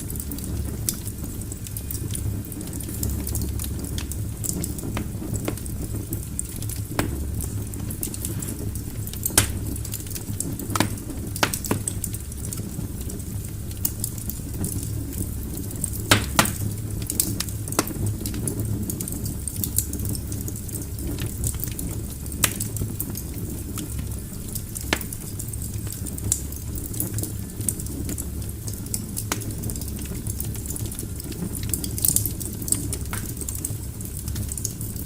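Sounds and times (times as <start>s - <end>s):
fire rumbling: 0.0s - 35.0s
logs crackling and popping: 0.0s - 35.0s.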